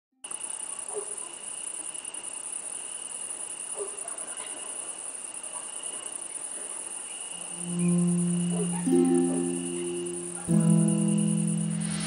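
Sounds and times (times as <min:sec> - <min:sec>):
crickets chirring: 0:00.3 - 0:12.0.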